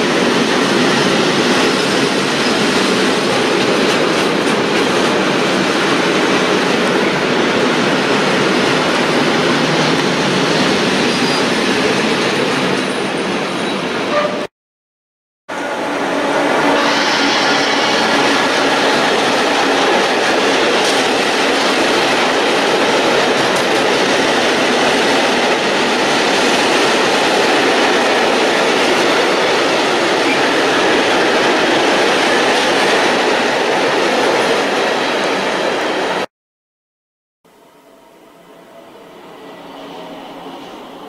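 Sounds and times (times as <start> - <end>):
train passing at speed: 0.0 - 14.4, 15.5 - 36.3, 37.6 - 41.0.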